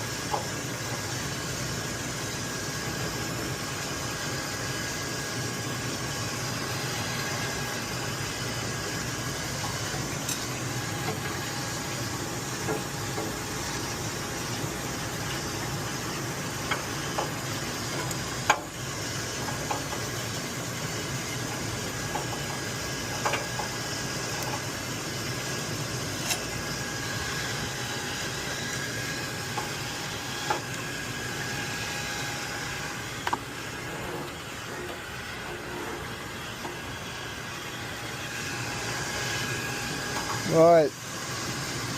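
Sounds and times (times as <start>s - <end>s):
mechanical hum and hiss: 0.0s - 41.9s.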